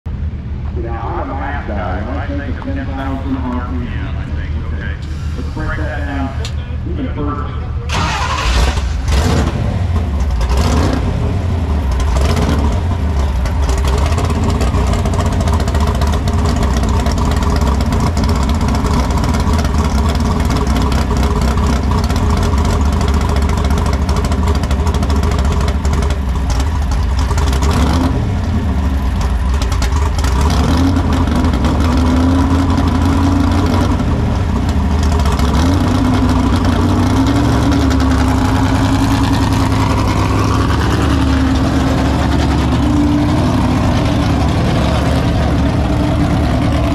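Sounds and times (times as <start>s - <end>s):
truck engine revving and idling: 0.1s - 46.9s.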